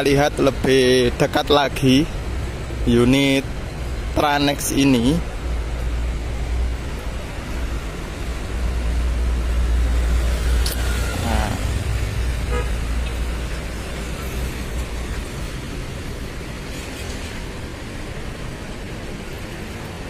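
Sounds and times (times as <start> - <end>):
diesel engine idling: 0.1 - 16.7.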